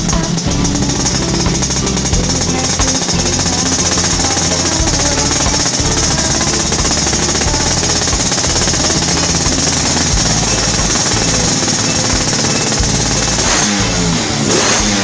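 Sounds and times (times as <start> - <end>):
background music: 0.0 - 15.0
two-stroke scooter engine rattling: 0.0 - 15.0.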